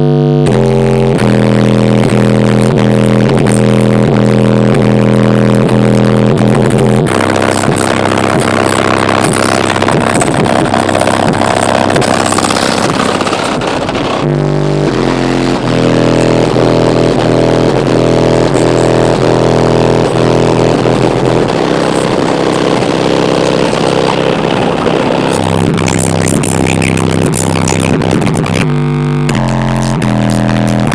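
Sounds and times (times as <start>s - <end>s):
distorted bass-heavy car music: 0.0s - 30.9s.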